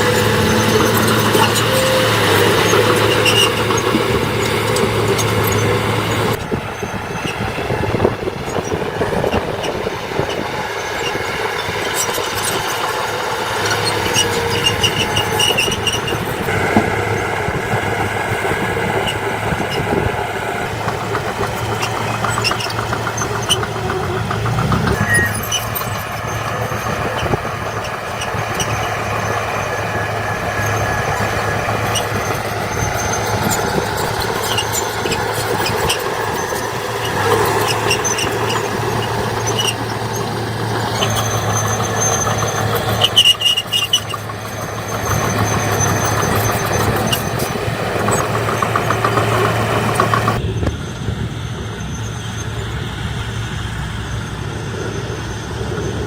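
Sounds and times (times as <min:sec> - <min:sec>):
heavy machinery engines humming: 0:00.0 - 0:56.0
high squeals: 0:00.0 - 0:56.0.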